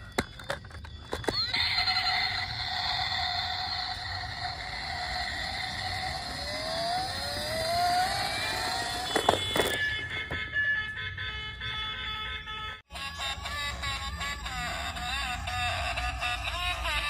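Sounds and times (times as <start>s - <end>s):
siren: 0.0s - 17.0s.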